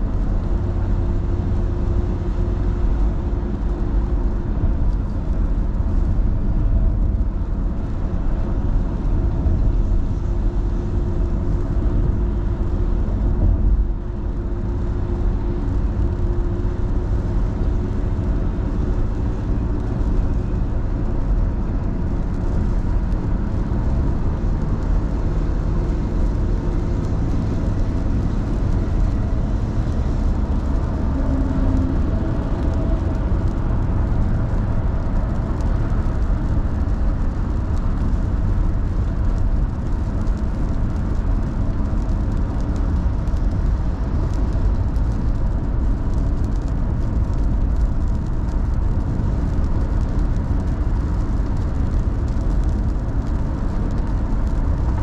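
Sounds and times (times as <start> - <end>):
car engine and tyre hum: 0.0 - 55.0.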